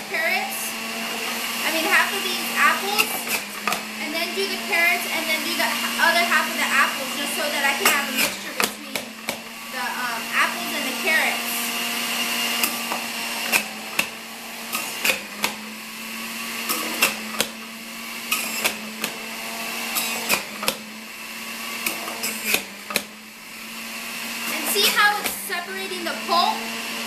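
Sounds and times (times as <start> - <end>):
juicer motor hum: 0.0 - 27.0
apple chunks knocking in juicer: 0.8 - 4.8, 5.7 - 9.7, 11.8 - 25.6.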